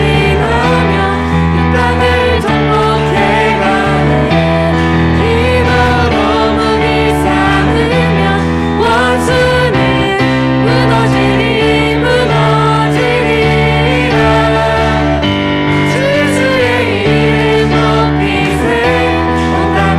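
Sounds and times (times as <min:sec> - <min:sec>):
bass and chords accompaniment: 0:00.0 - 0:19.9
person singing worship song: 0:00.0 - 0:19.9.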